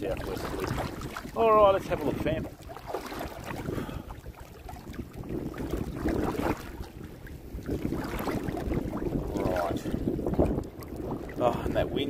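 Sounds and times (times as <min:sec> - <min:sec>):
water sloshing from wading: 0:00.0 - 0:12.0
wind rumbling on microphone: 0:00.0 - 0:12.0.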